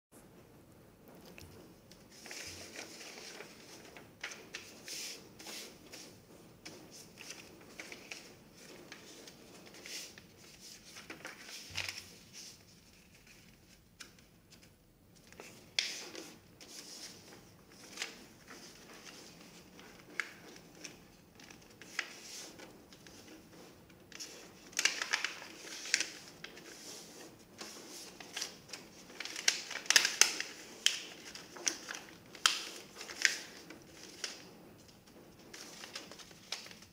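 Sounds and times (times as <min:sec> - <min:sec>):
paper rustling and scraping: 0:01.5 - 0:36.9.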